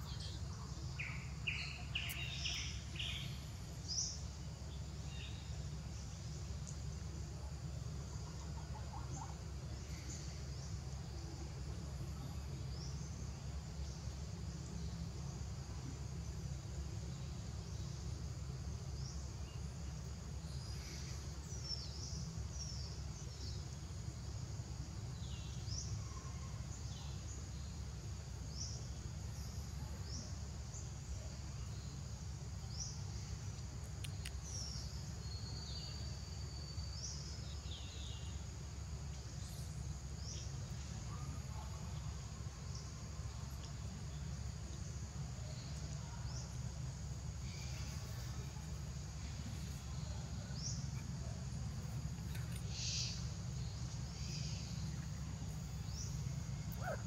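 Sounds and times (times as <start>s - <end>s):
insect drone: 0.0s - 57.0s
low steady rumble: 0.0s - 57.0s.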